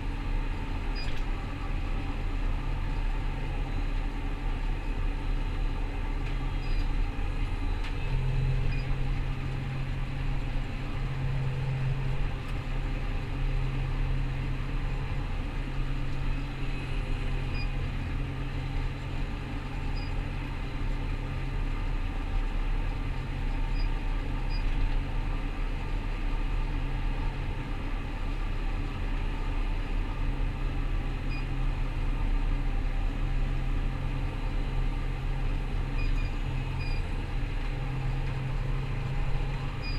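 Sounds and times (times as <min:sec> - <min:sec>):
combine harvester diesel drone: 0:00.0 - 0:39.9.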